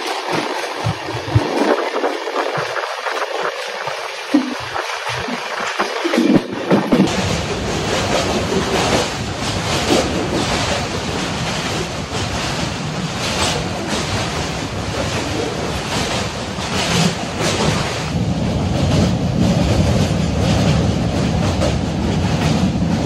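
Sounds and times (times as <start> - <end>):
moving train rumble: 0.0 - 23.0
wind buffeting microphone: 0.0 - 23.0.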